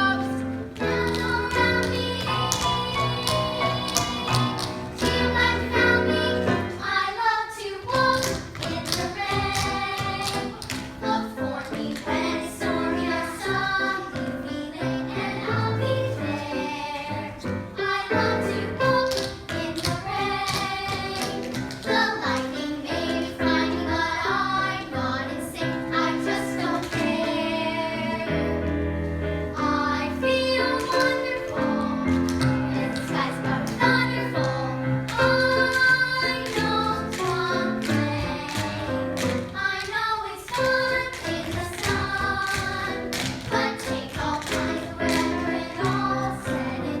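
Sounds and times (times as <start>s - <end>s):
children singing: 0.0s - 28.7s, 29.6s - 47.0s
musical accompaniment: 0.0s - 47.0s.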